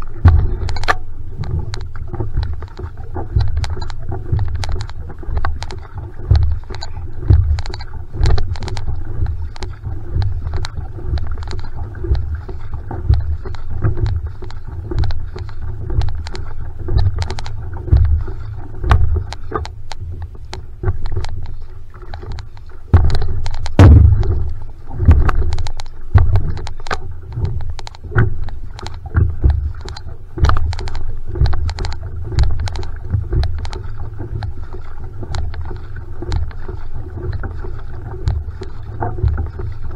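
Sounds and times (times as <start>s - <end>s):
paddle strokes splashing: 0.0s - 39.9s
water rumbling along hull: 0.0s - 39.9s.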